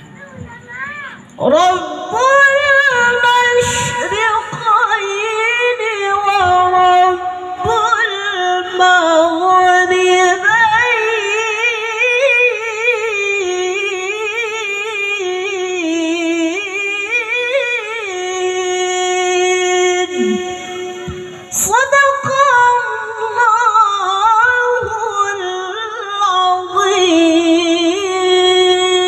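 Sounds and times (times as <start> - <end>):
woman reciting melodically: 0.0 - 29.0.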